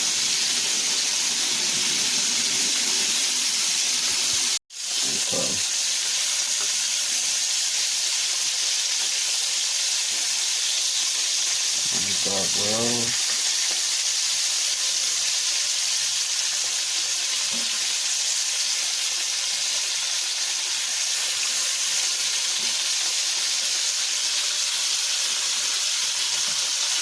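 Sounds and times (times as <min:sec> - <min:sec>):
liver sizzling in a pan: 0:00.0 - 0:27.0.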